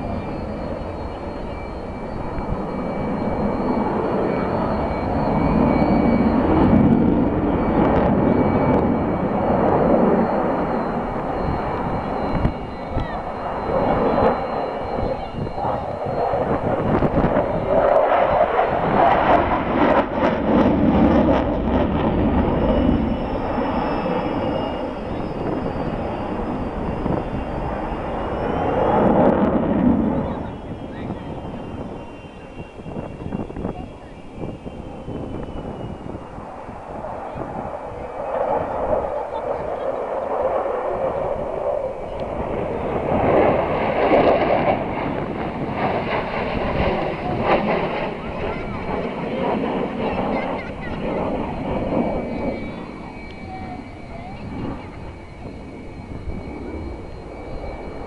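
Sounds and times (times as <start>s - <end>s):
faint rising whine: 0.0s - 58.0s
fighter jet flying overhead: 0.0s - 58.0s
wind buffeting microphone: 0.0s - 58.0s.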